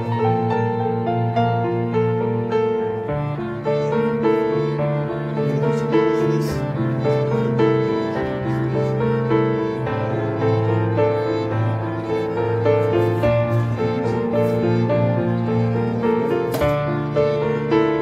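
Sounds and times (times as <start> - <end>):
classical piano and strings music: 0.0 - 18.0.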